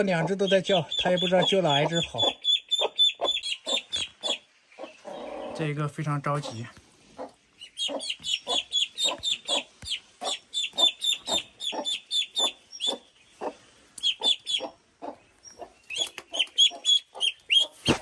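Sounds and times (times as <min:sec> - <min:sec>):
duckling peeping: 0:00.0 - 0:05.6, 0:06.4 - 0:18.0.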